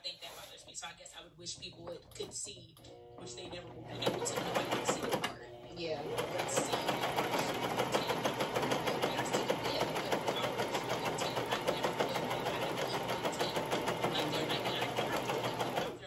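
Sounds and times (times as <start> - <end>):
sewing machine stitching: 1.8 - 16.0.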